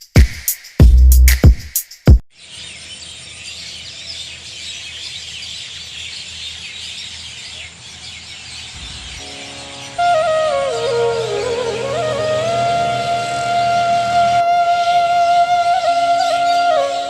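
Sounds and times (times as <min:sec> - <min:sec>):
small birds chirping: 0:02.3 - 0:17.0.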